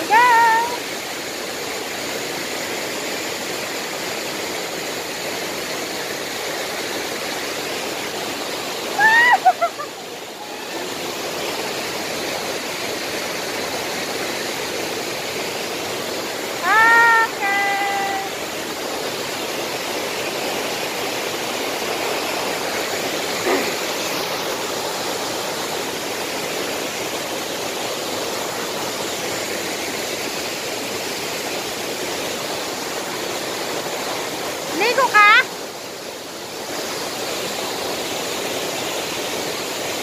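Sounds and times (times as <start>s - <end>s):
waterfall and river rapids: 0.0s - 40.0s.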